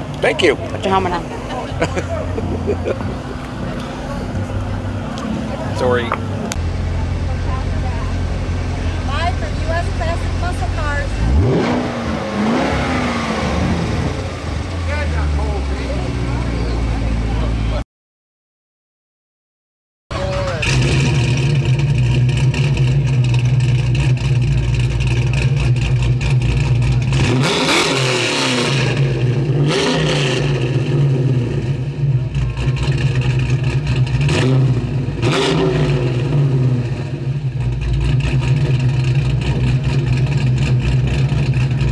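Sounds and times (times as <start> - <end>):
car engine idling: 0.0 - 17.8, 20.1 - 29.7, 30.4 - 41.9
engine revving: 0.0 - 17.8, 20.1 - 41.9.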